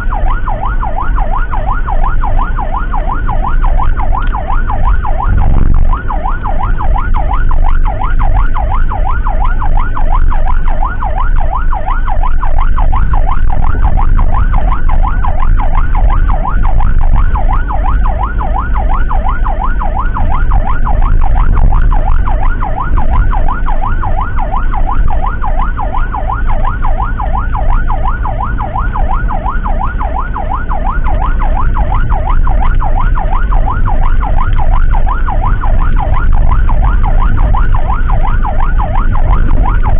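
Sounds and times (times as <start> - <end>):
emergency siren yelping: 0.0 - 39.9
low vehicle rumble: 0.0 - 39.9.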